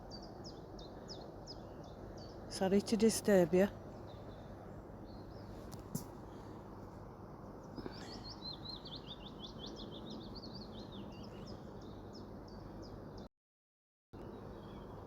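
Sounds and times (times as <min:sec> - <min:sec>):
outdoor background noise: 0:00.0 - 0:13.3, 0:14.2 - 0:15.0
songbird chirping: 0:00.0 - 0:13.3, 0:14.2 - 0:15.0.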